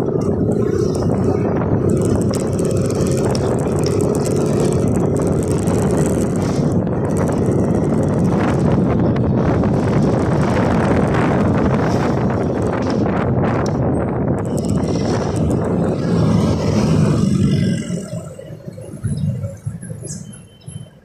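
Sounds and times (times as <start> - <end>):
motorcycle engine cruising: 0.0 - 20.7
wind on microphone: 0.0 - 20.8.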